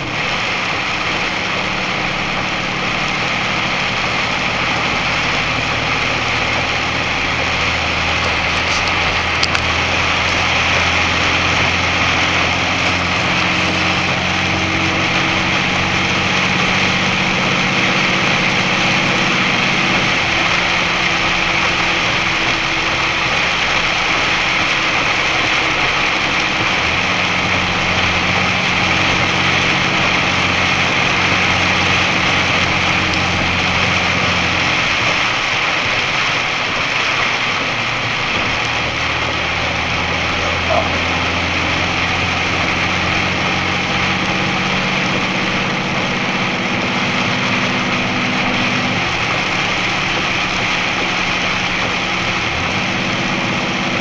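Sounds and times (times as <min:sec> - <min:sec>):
heavy rain hiss: 0:00.0 - 0:54.0
truck engine running: 0:00.0 - 0:54.0
wet tyres on road: 0:00.0 - 0:54.0.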